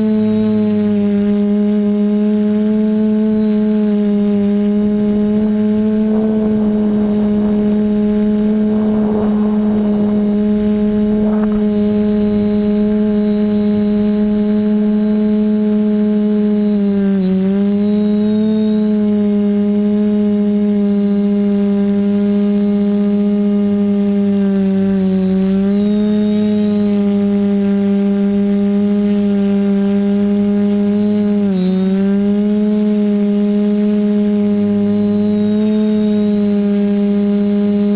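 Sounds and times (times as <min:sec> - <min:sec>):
drone motors whining: 0:00.0 - 0:37.9.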